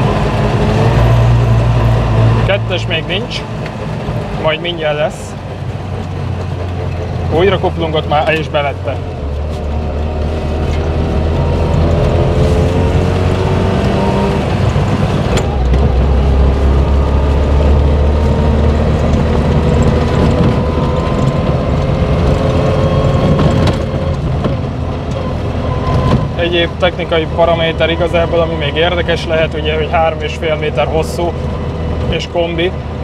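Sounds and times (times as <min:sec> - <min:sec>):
two-stroke car engine running: 0:00.0 - 0:33.0.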